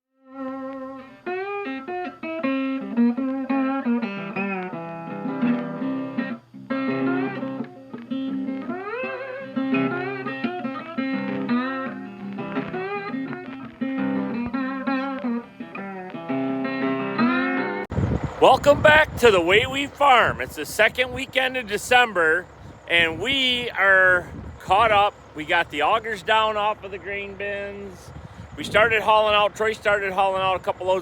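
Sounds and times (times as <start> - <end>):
guitar tune with bending notes: 0.3 - 31.0.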